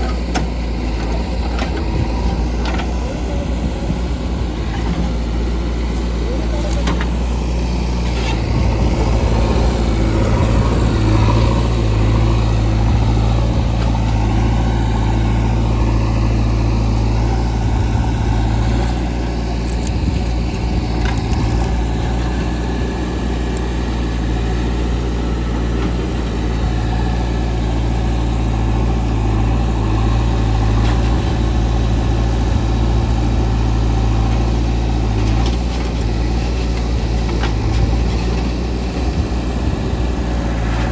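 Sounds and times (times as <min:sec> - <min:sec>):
diesel engines droning: 0:00.0 - 0:40.9.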